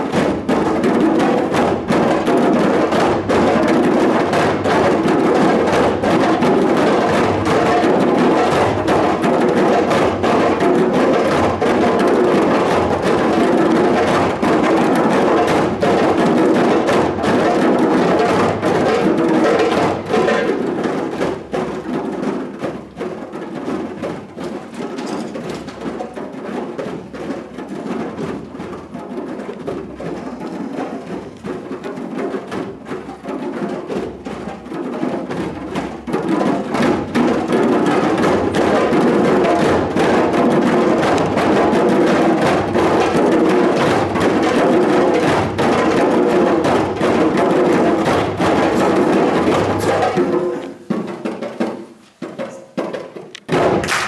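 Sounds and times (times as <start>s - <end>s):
children playing djembes: 0.0s - 54.0s.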